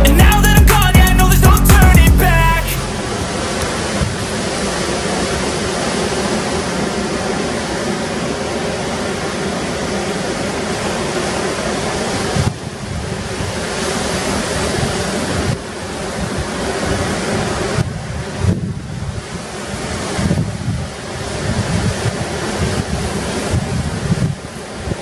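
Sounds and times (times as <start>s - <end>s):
ocean surf breaking: 2.2s - 25.0s
wind blowing over microphone: 2.8s - 25.0s.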